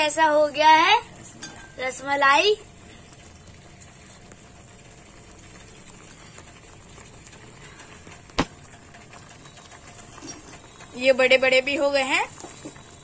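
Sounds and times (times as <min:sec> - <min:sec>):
syrup boiling in a pan: 0:00.0 - 0:13.0.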